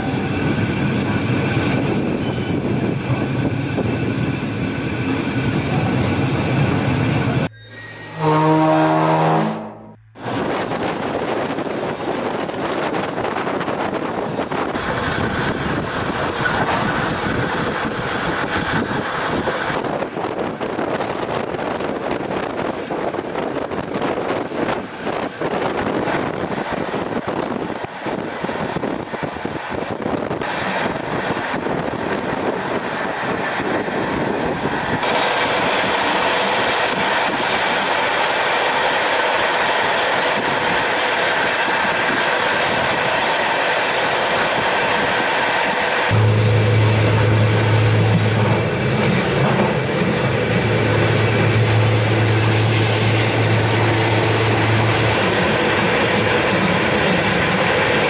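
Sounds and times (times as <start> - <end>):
train wheels rolling on rails: 10.2 - 58.0.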